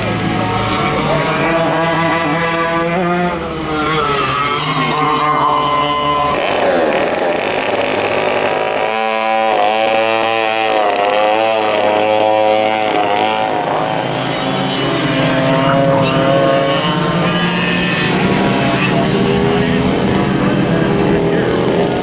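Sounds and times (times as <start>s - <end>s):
go-kart engines passing: 0.0s - 22.0s.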